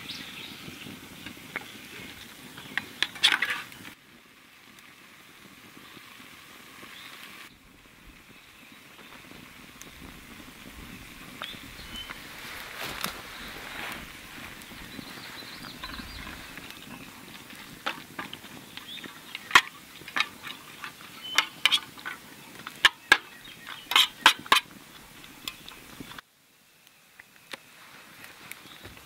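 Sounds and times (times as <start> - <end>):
food sizzling over fire: 0.0 - 29.0.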